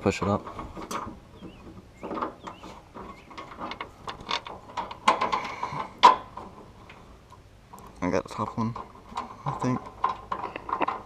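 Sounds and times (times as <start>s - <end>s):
metal clicks and knocks: 0.0s - 11.0s.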